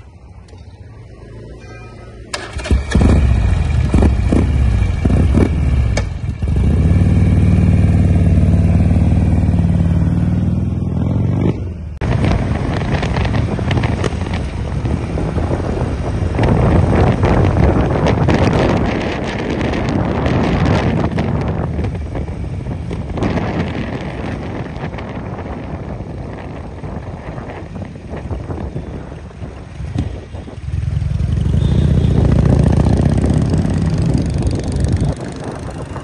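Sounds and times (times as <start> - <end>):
road noise: 0.0 - 36.0
rushing wind: 0.0 - 36.0
motorcycle engine revving: 2.3 - 36.0.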